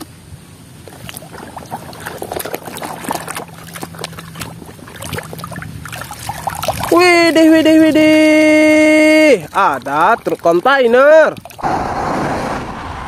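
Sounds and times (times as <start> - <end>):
water splashing and dripping: 0.7 - 11.6
hands scrubbing toy in water: 0.8 - 11.6.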